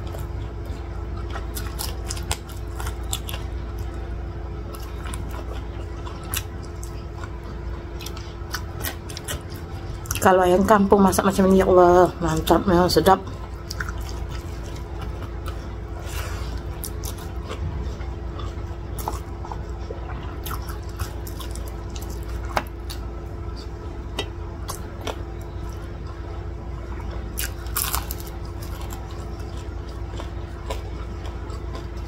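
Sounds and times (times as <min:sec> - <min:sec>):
chewing with mouth smacks: 0:00.0 - 0:10.3, 0:12.3 - 0:32.0
steady low hum: 0:00.0 - 0:32.0.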